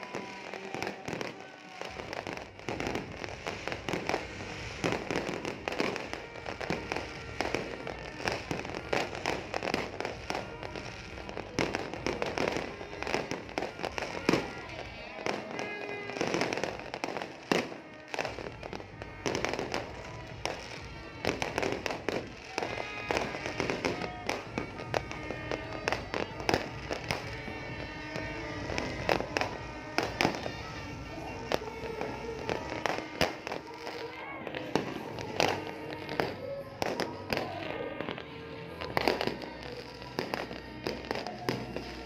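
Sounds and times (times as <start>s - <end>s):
fireworks bangs and crackles: 0.0s - 42.0s
music: 0.0s - 42.0s
voices: 0.0s - 42.0s.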